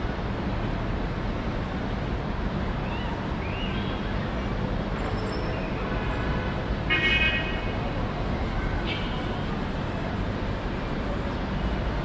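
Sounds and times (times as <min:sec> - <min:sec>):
distant city traffic: 0:00.0 - 0:12.0.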